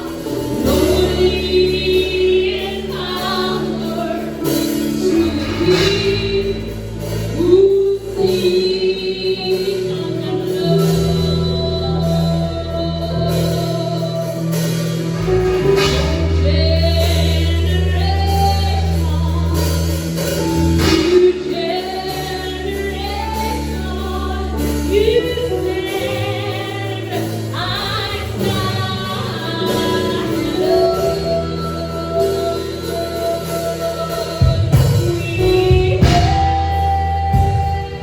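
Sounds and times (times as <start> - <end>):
held bass notes: 0.0 - 38.0
voices singing gospel: 0.0 - 38.0.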